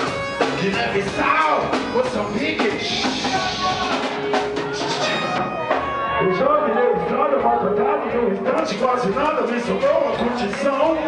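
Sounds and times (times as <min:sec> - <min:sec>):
live reggae band: 0:00.0 - 0:11.0.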